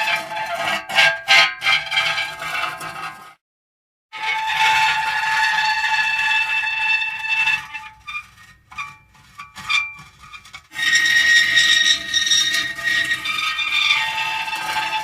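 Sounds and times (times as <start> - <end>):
metal creaking squeals: 0.0 - 3.2, 4.2 - 15.0.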